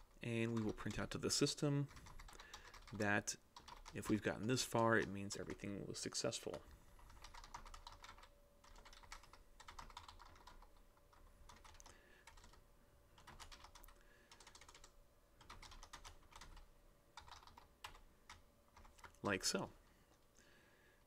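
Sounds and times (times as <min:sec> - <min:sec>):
keyboard typing: 0:00.0 - 0:01.1, 0:01.8 - 0:05.6, 0:06.5 - 0:12.6, 0:13.2 - 0:19.2.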